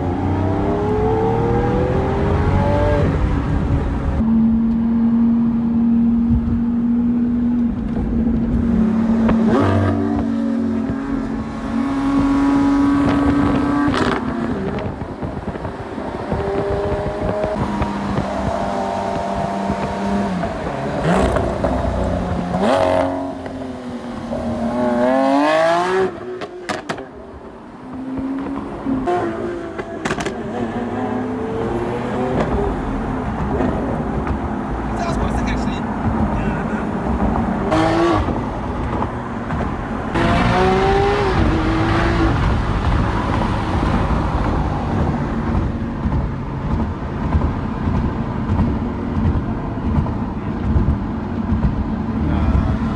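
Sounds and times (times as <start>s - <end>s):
car engine revving: 0.0s - 52.9s
exhaust cracks: 6.2s - 52.9s.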